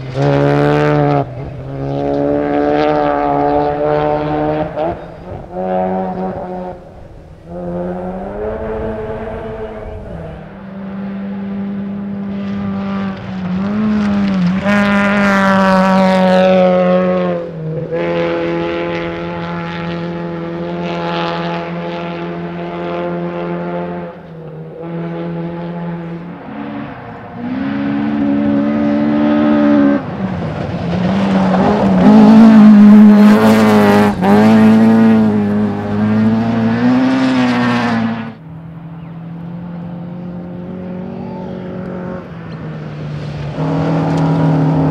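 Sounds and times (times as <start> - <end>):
rally car engine at full throttle: 0.0 - 44.9.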